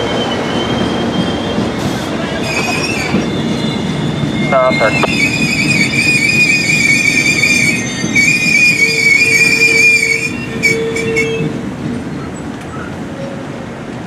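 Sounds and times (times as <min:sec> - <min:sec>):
train wheels squealing on rail: 0:00.0 - 0:13.6
low train rumble: 0:00.0 - 0:14.0.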